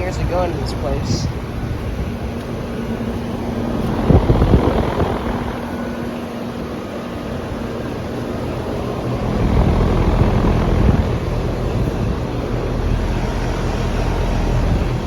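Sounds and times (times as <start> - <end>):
air conditioning units humming: 0.0 - 15.0
low rumbles on microphone: 1.0 - 6.8, 8.6 - 15.0.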